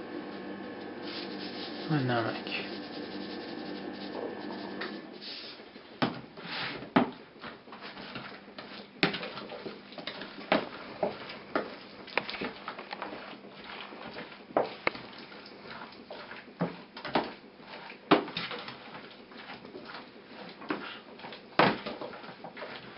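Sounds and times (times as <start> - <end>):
spoon scraping through wet mixture: 1.0 - 5.0, 7.4 - 22.9.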